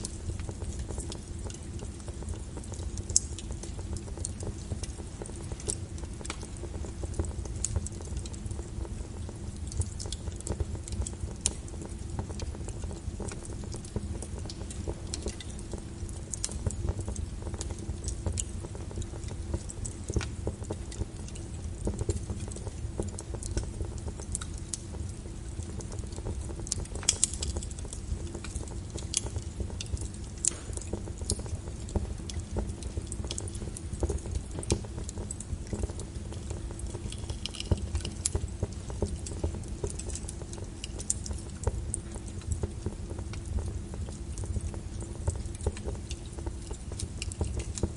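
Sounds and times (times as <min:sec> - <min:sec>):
logs crackling and popping: 0:00.0 - 0:47.9
low rumble of flame: 0:00.0 - 0:47.9.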